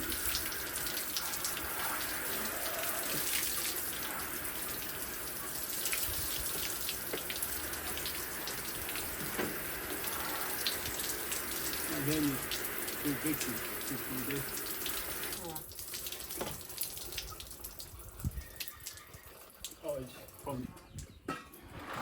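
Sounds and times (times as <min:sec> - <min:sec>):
water running from a tap: 0:00.0 - 0:20.4
hands and bucket rinsed: 0:00.0 - 0:22.0.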